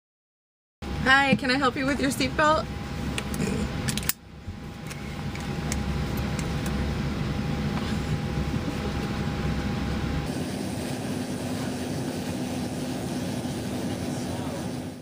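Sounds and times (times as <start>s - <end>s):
faint hum: 0.8s - 15.0s
vehicle cabin noise: 1.0s - 15.0s.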